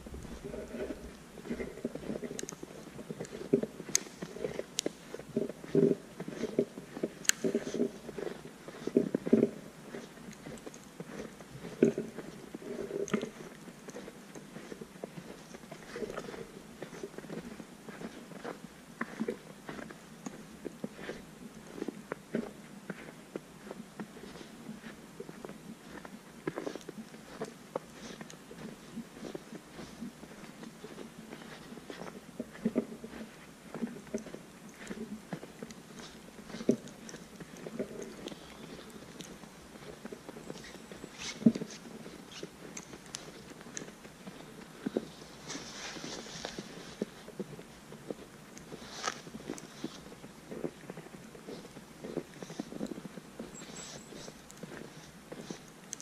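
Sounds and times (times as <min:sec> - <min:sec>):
footsteps crunching in snow: 0:00.0 - 0:56.0.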